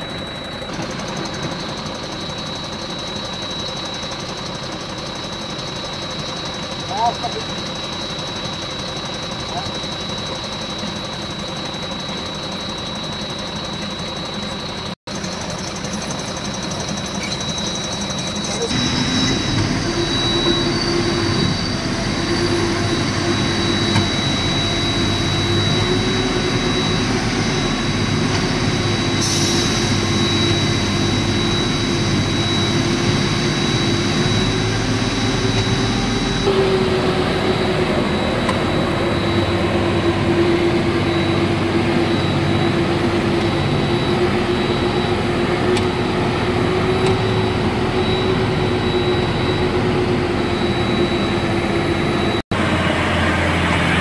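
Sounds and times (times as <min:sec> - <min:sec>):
diesel engine with high whine: 0:00.0 - 0:54.0.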